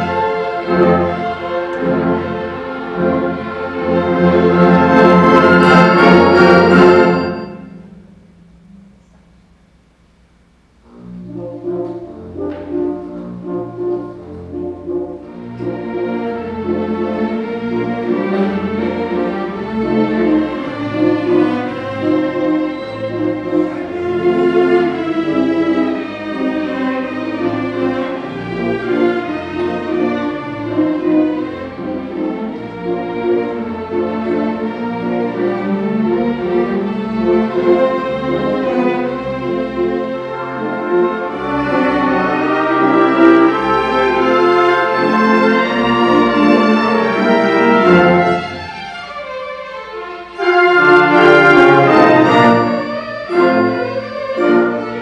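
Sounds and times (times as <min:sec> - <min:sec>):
orchestra playing a waltz: 0:00.0 - 0:55.0.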